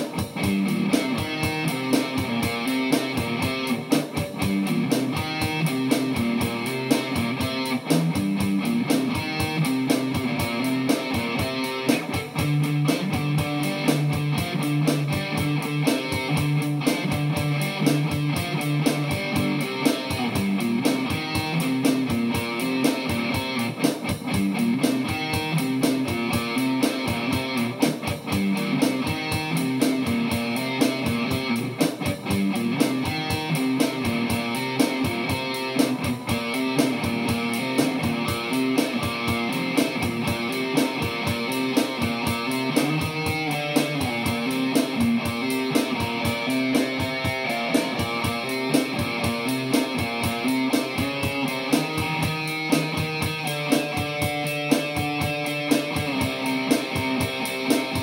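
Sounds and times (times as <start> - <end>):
steady drum beat: 0.0 - 58.0
strummed guitars: 0.0 - 58.0.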